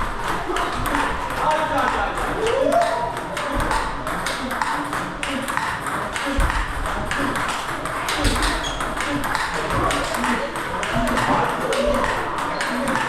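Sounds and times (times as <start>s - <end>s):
table tennis ball clicks: 1.8s - 13.0s.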